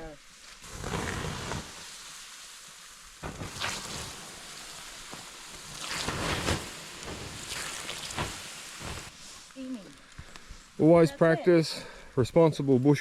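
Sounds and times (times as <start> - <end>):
water hissing on hot embers: 0.0 - 13.0.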